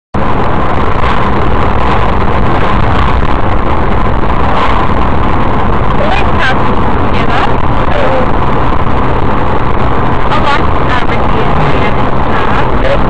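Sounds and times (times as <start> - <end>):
car road and engine rumble: 0.1 - 13.0.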